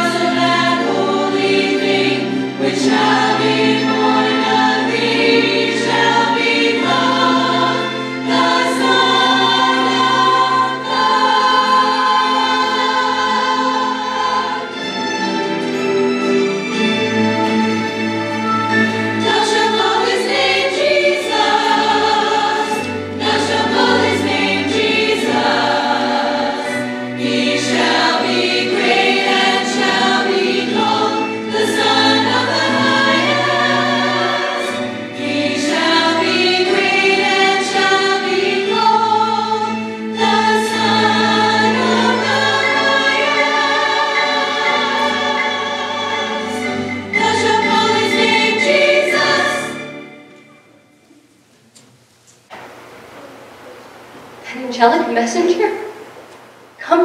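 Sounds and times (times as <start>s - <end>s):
mixed choir singing: 0.0s - 50.9s.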